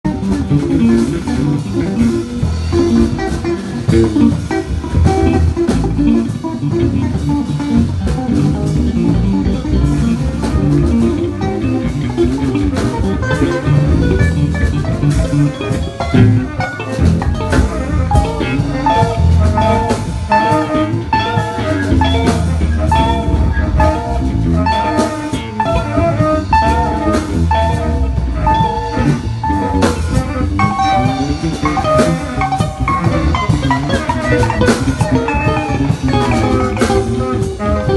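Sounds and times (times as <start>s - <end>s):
jazz band playing: 0.0s - 37.9s
held melody notes: 0.1s - 37.9s.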